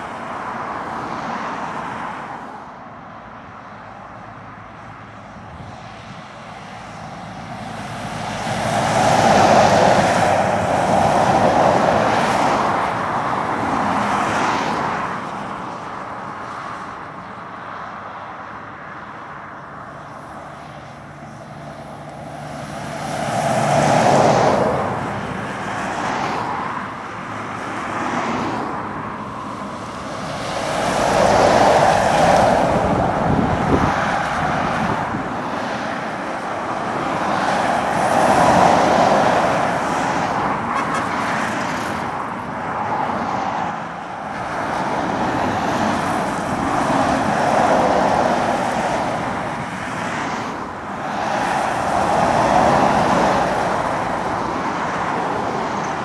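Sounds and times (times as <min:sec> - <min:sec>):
lorries and cars passing: 0:00.0 - 0:56.0.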